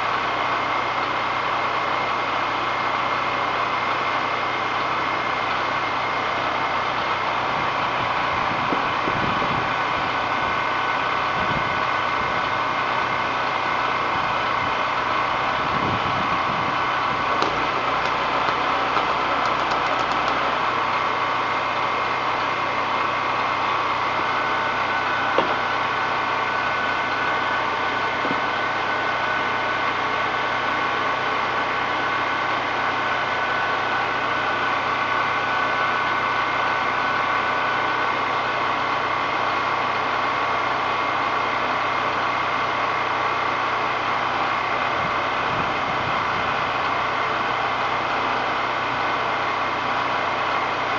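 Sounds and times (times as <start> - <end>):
small generator engine running: 0.0 - 50.9.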